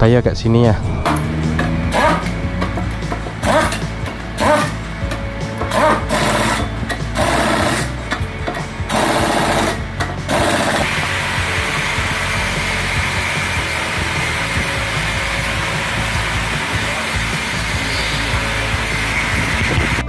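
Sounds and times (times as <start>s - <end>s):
pneumatic impact wrench bursts: 1.1s - 20.0s.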